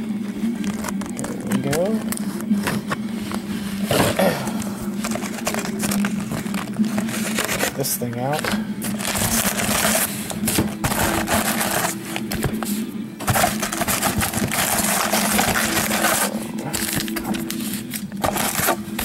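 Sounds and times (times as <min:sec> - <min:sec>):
low electrical hum: 0:00.0 - 0:19.0
packaging crinkling and tearing: 0:00.5 - 0:19.0.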